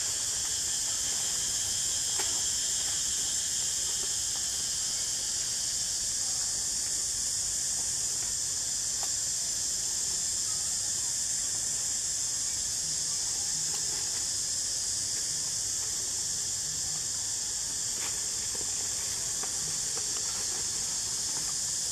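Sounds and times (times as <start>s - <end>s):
insect chorus drone: 0.0s - 21.9s.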